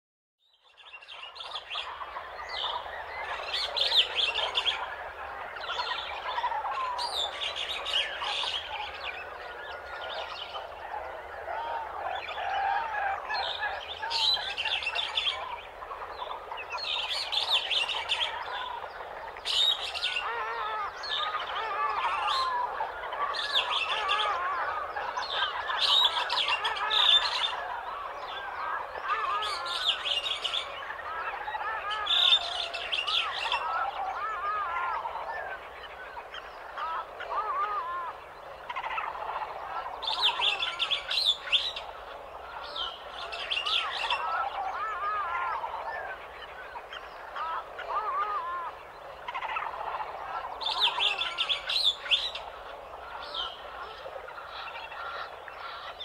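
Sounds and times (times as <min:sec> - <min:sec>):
birds warbling and chirping: 0:00.5 - 0:56.0.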